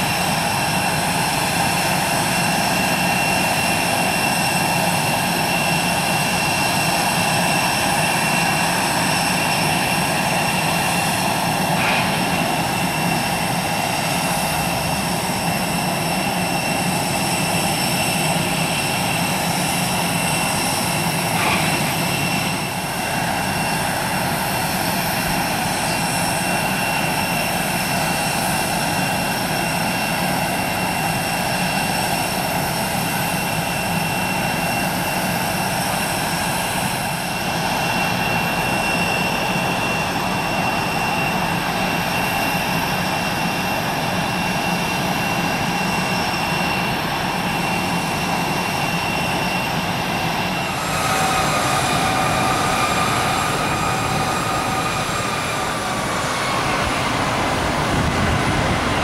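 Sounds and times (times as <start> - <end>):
high steady whine: 0.0 - 59.0
jet engine roar: 0.0 - 59.0.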